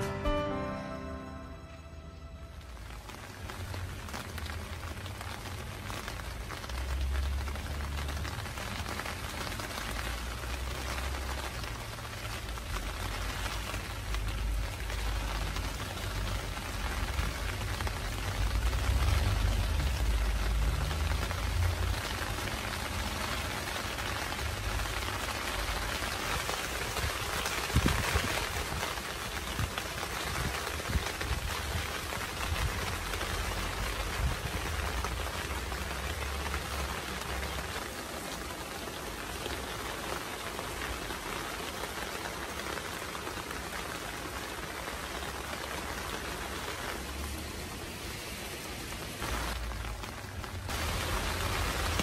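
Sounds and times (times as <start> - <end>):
rain pattering: 0.0 - 52.0.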